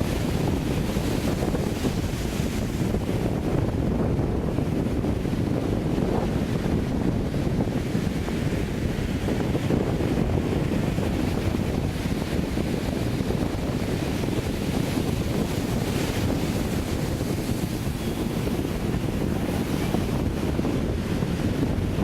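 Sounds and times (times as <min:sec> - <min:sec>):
sea surf washing onto beach: 0:00.0 - 0:22.0
wind buffeting microphone: 0:00.0 - 0:22.0.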